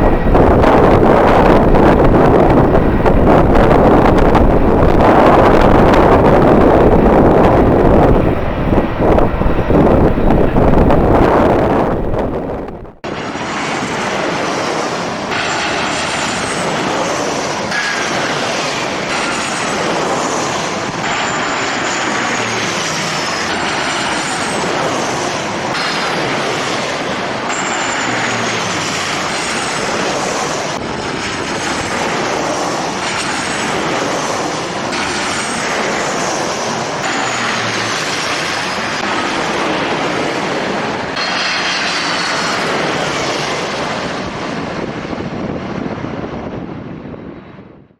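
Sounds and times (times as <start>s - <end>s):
jet engines roaring and whining: 0.0s - 47.9s.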